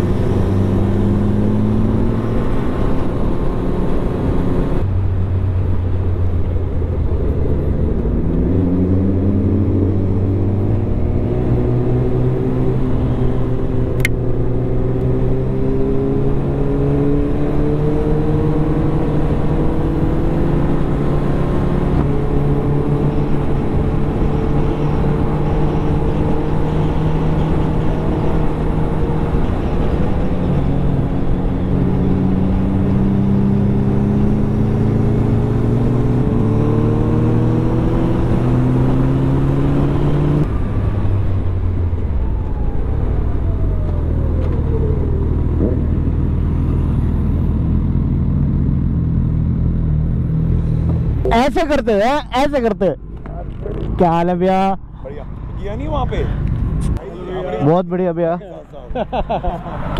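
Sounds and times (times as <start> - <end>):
motorcycle engine at speed: 0.0 - 51.3.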